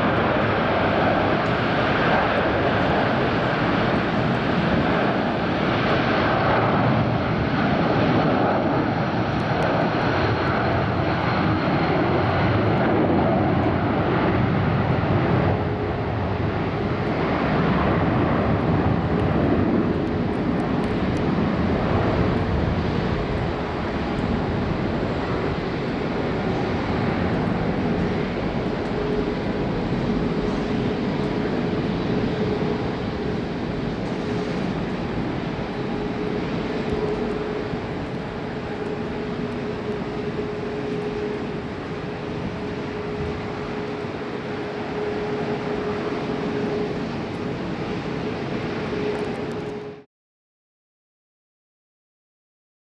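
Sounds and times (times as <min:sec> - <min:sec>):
jet engines running loudly: 0:00.0 - 0:50.1.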